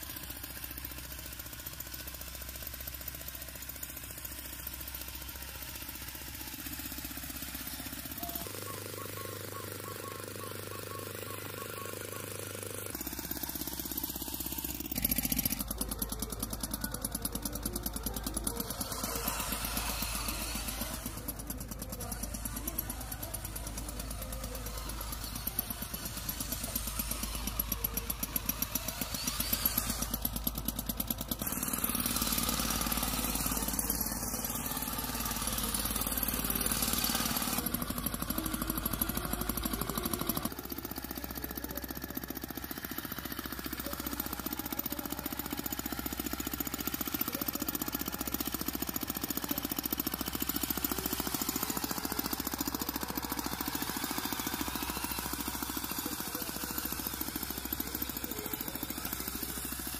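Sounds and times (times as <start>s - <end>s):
model tractor engine chugging: 0.0s - 59.9s.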